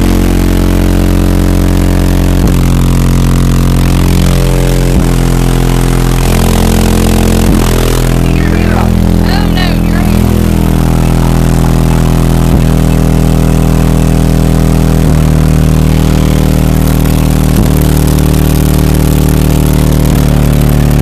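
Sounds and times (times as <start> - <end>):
bass-heavy music through car speakers: 0.0 - 21.0.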